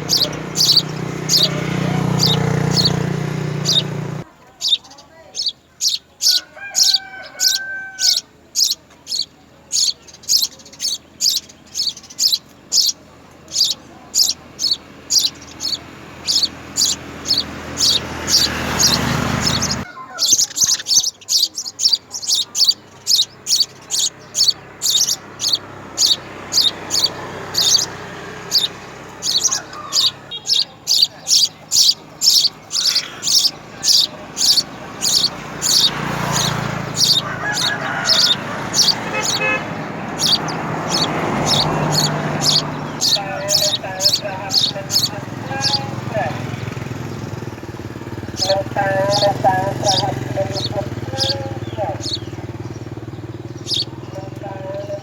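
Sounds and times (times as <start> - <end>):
rushing background noise: 0.0 - 55.0
sparrow chirping: 0.0 - 55.0.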